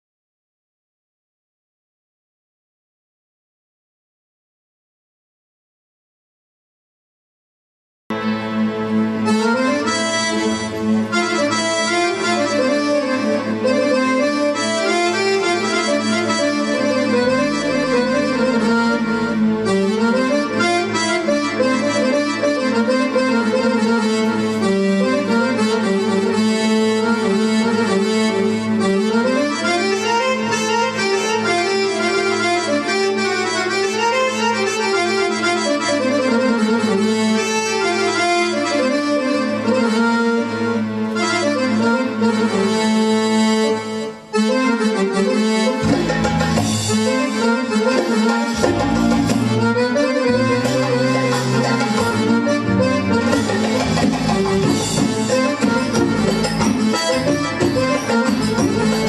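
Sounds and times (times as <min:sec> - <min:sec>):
accordion melody: 0:08.1 - 0:59.0.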